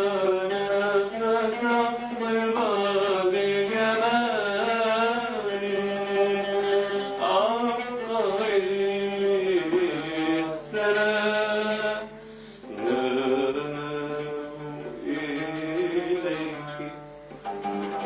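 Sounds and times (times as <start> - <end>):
man singing held notes: 0.0 - 17.2.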